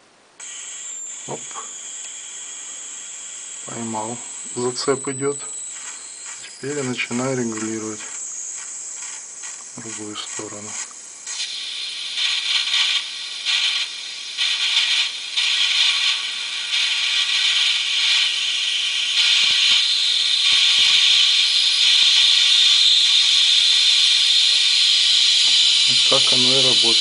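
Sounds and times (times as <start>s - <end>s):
high hissing buzz from coils: 0.0s - 27.0s.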